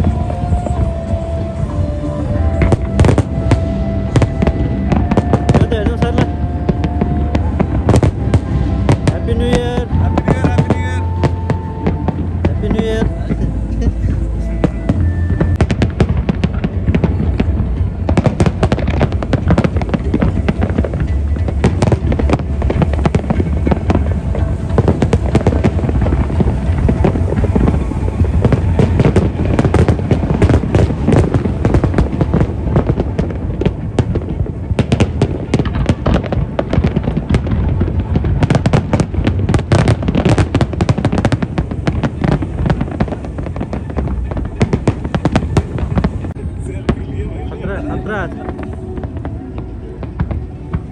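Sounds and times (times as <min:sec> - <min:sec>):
fireworks bangs and crackle: 0:00.0 - 0:50.9
music: 0:00.0 - 0:50.9
rumbling fireworks booms: 0:00.0 - 0:50.9.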